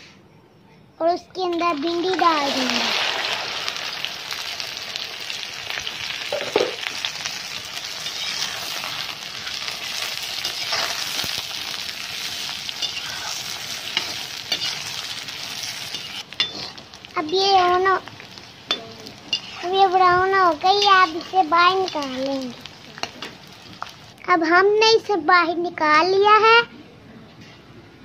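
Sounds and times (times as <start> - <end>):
okra sizzling in hot oil: 1.4 - 25.2.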